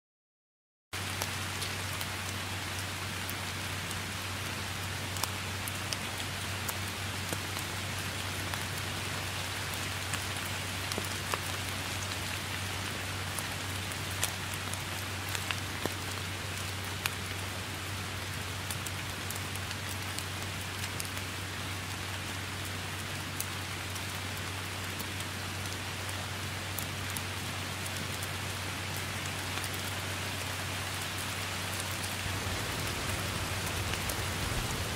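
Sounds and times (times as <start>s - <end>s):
rain falling on foliage: 1.0s - 34.9s.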